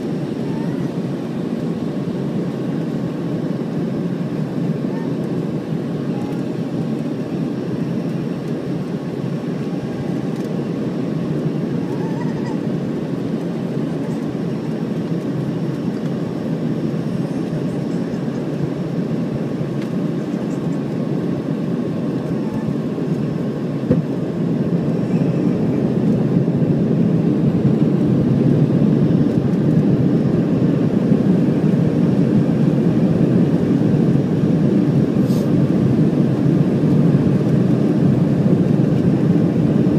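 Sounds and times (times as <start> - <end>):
airflow rushing in a jet cabin: 0.0 - 39.9
jet engines humming: 0.0 - 39.9.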